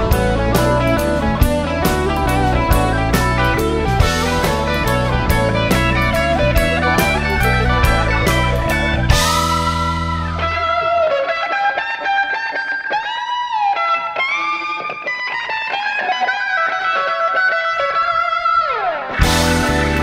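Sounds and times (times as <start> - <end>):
instrumental rock music: 0.0 - 20.0
lead electric guitar bending notes: 0.0 - 20.0.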